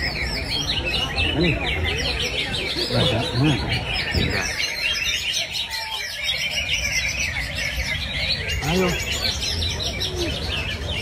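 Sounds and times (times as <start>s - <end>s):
birds chirping and trilling: 0.0s - 11.0s.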